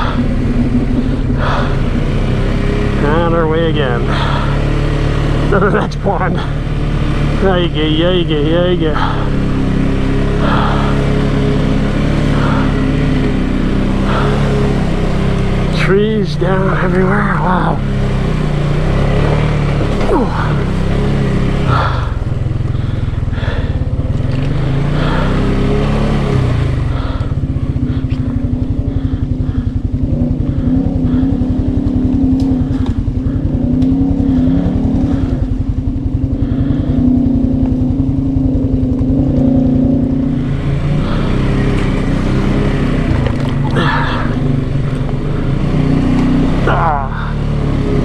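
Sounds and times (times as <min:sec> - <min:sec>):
atv engine revving: 0:00.0 - 0:48.0.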